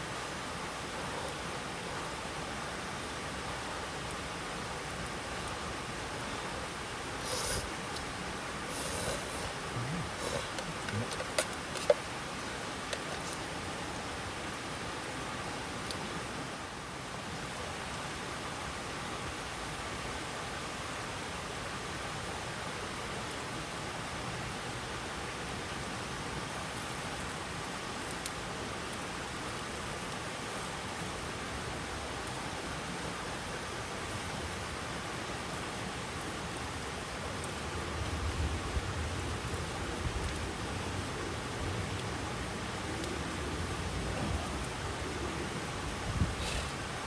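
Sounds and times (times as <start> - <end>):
rain hissing: 0.0 - 20.3, 28.6 - 47.0
rushing water: 0.0 - 47.0.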